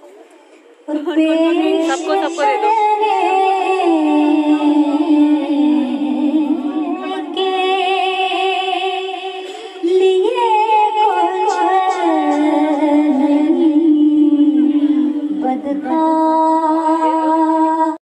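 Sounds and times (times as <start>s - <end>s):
woman singing unaccompanied: 0.9s - 18.0s.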